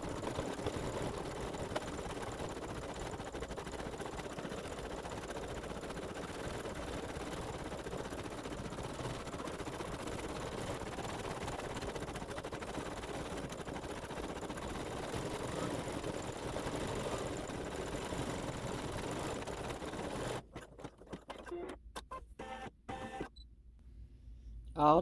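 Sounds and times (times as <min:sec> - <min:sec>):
embroidery machine stitching: 0:00.0 - 0:23.3.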